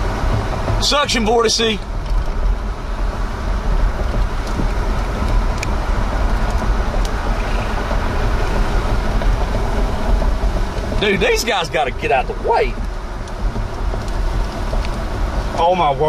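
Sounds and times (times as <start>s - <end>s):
car driving on wet road: 0.0s - 16.0s
strong winds: 0.0s - 16.0s
light ticks against car: 0.2s - 15.9s.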